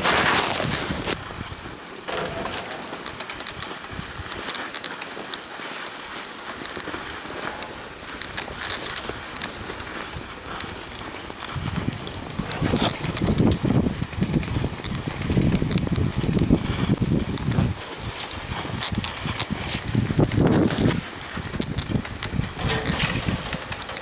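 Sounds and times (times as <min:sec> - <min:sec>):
skis scraping over snow: 0:00.0 - 0:24.0
clicks and rattles: 0:02.0 - 0:24.0.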